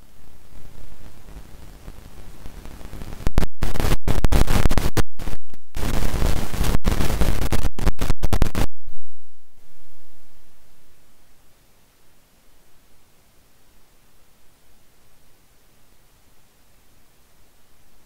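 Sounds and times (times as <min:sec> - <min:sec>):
loud static hiss: 0:00.0 - 0:18.0.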